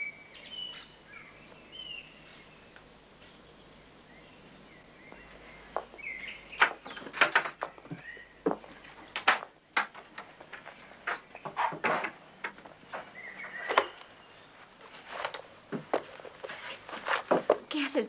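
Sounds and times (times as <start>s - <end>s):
faint birdsong chirps: 0.0s - 18.0s.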